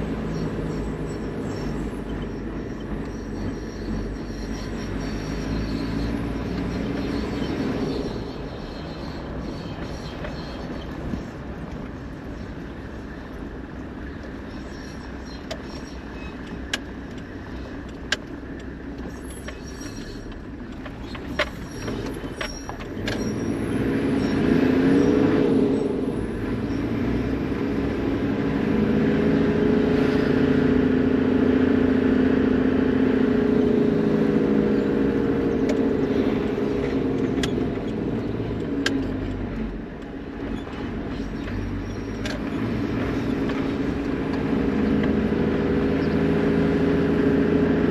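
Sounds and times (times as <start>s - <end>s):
vehicle engine hum: 0.0s - 47.9s.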